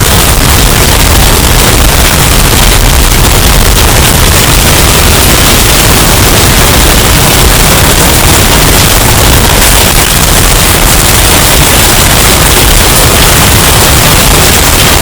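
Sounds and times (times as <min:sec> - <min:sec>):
distorted hurricane storm noise: 0:00.0 - 0:15.0.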